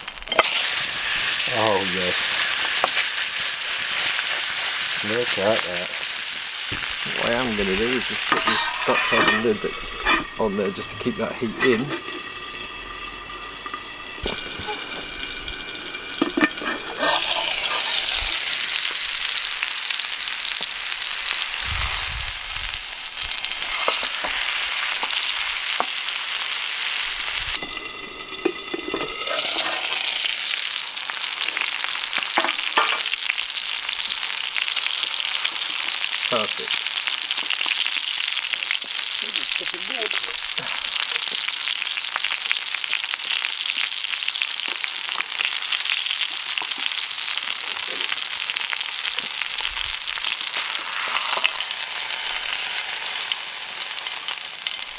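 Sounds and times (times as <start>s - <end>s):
steak sizzling in a pan: 0.0s - 54.9s.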